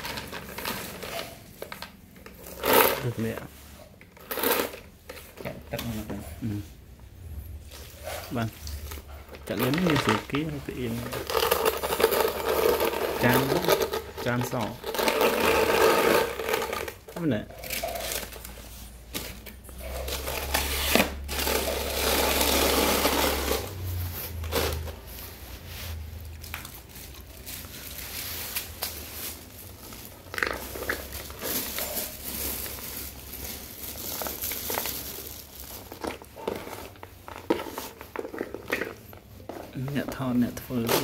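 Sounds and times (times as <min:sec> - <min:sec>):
plastic crinkling: 0:00.0 - 0:41.0.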